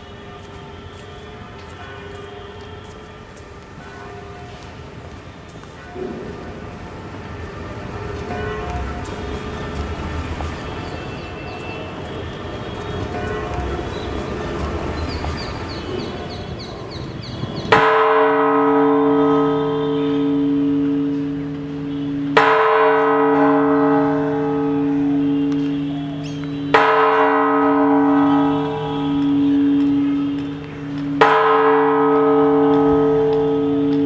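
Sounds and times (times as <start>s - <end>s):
church bell tolling: 1.7s - 2.6s, 3.8s - 4.6s, 5.8s - 6.8s, 8.0s - 34.0s.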